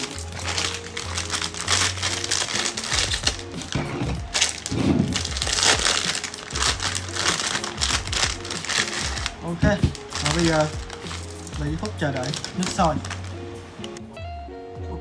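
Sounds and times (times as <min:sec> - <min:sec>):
plastic packets crinkling: 0:00.0 - 0:14.0
background music: 0:00.0 - 0:15.0.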